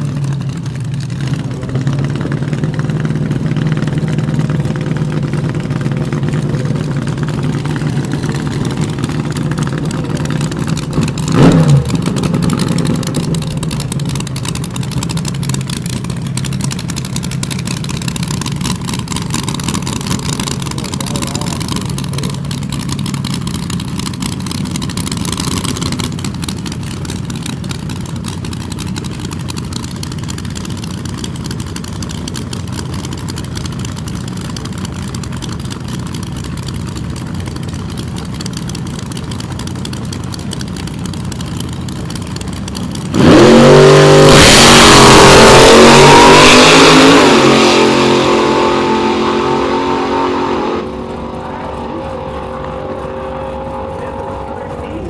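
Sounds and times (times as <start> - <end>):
drag cars idling: 0.0 - 55.0
drag cars launching engine howl: 1.2 - 55.0.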